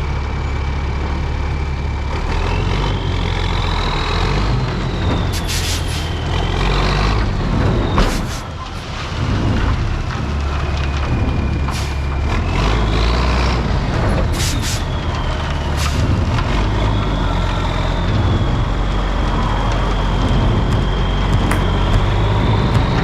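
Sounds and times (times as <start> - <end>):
diesel equipment rumbling: 0.0 - 23.0.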